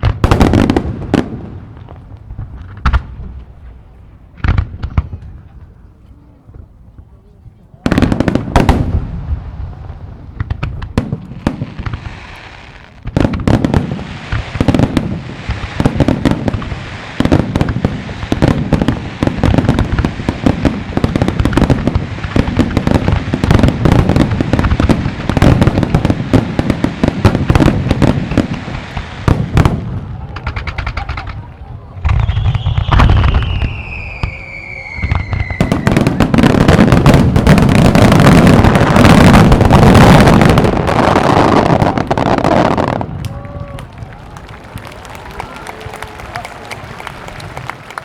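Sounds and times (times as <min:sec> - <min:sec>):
firework crackling: 0:00.0 - 0:05.7, 0:07.8 - 0:48.0.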